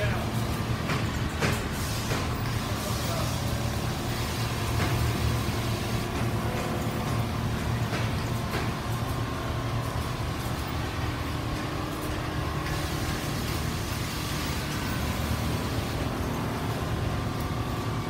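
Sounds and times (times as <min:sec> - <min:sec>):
quilting machines droning: 0:00.0 - 0:18.0.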